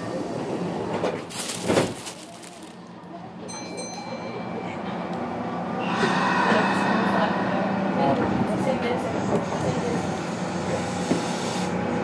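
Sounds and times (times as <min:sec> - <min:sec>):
train car rumbling and rattling: 0:00.0 - 0:12.0.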